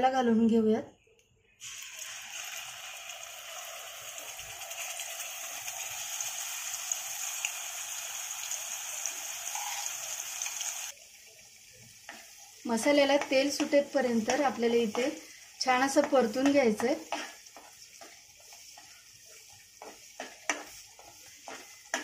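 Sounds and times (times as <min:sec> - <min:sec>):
paste sizzling in hot oil: 0:01.6 - 0:22.0.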